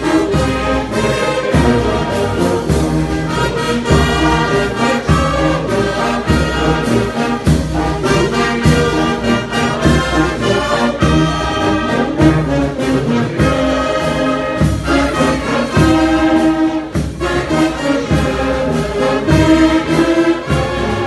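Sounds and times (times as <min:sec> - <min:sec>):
brass band playing a hymn: 0:00.0 - 0:21.0
steady low drum beat: 0:00.0 - 0:21.0.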